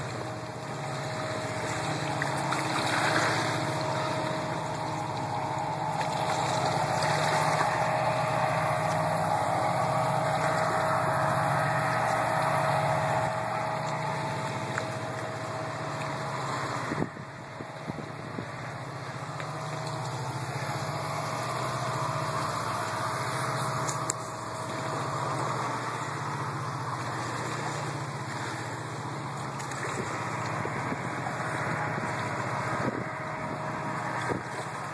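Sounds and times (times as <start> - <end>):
low engine drone: 0.0 - 34.9.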